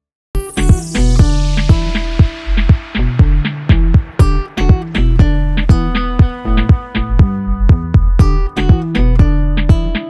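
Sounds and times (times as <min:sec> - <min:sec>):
guitar music over steady beat: 0:00.4 - 0:10.0.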